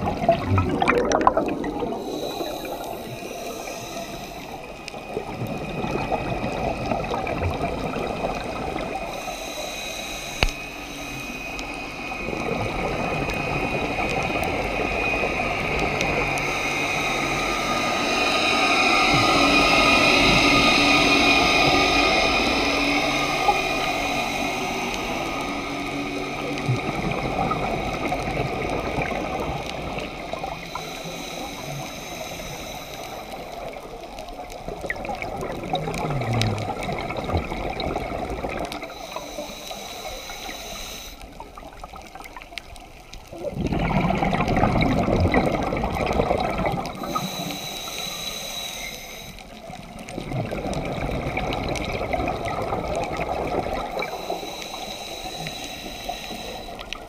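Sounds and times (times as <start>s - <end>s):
water rushing underwater: 0.0s - 57.0s.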